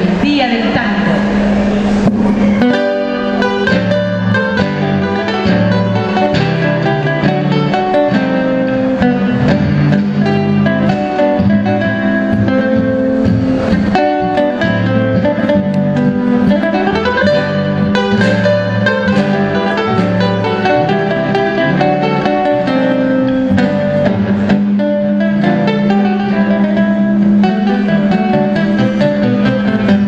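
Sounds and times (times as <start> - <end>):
acoustic guitars playing tango: 0.0 - 30.0.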